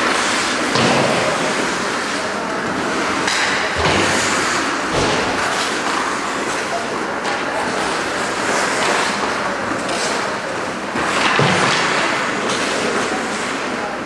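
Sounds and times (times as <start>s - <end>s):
skates scraping ice: 0.0s - 14.0s
voices in the stands: 0.0s - 14.0s.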